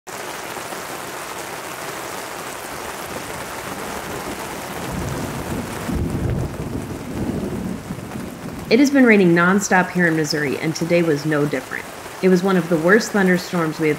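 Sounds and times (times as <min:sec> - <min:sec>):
heavy rain: 0:00.1 - 0:13.9
thunder rumbling: 0:02.6 - 0:13.9.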